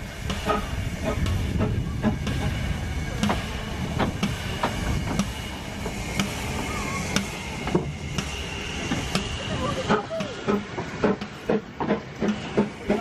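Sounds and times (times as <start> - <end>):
locomotive low rumble: 0.0 - 13.0
steam hiss: 0.0 - 13.0
wheels clanking on rails: 0.0 - 13.0.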